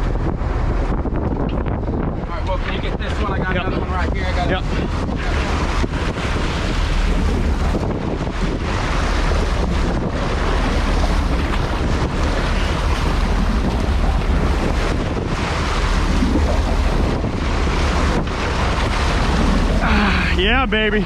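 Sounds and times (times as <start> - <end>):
boat engine rumble: 0.0 - 21.0
sea water washing: 0.0 - 21.0
wind buffeting microphone: 0.0 - 21.0.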